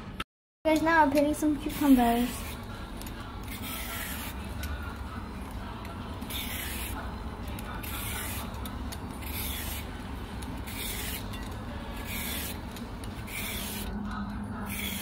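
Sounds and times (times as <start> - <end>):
vegetable peeler scraping cucumber: 0.7 - 4.9, 6.2 - 14.0, 14.6 - 15.0.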